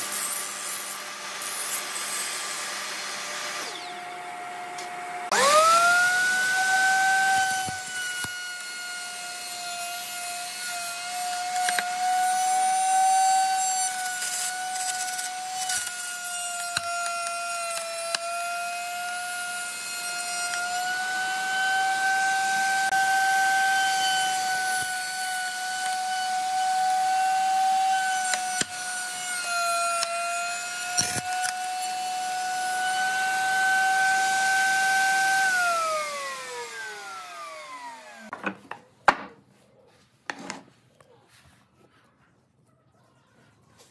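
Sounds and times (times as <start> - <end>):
router whining: 0.0 - 38.7.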